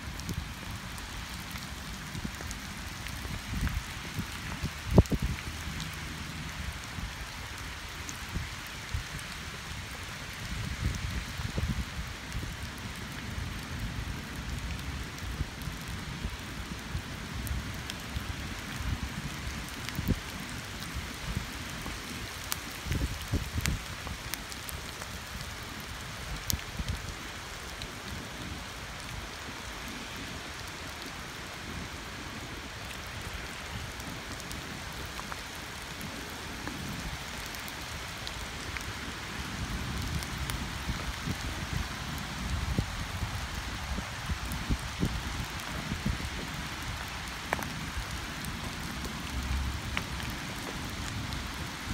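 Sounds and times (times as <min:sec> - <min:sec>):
rain hissing on asphalt: 0:00.0 - 0:51.9.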